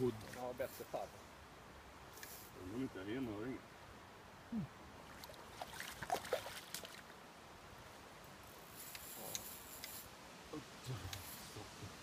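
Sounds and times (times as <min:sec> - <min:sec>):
faint flowing river water: 0:00.0 - 0:12.0.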